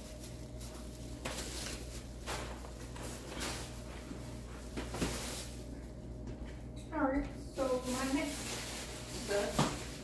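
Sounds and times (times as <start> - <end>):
rustling and handling noises: 0.0 - 10.0
steady low hum: 0.0 - 10.0.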